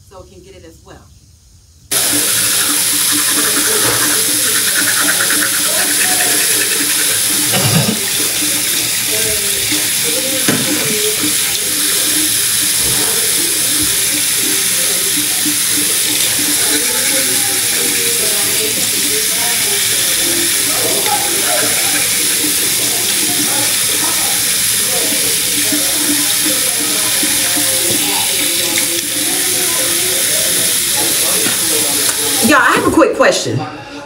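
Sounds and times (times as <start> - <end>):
tap water splashing into sink: 1.9 - 19.9, 20.5 - 29.7, 30.3 - 32.4.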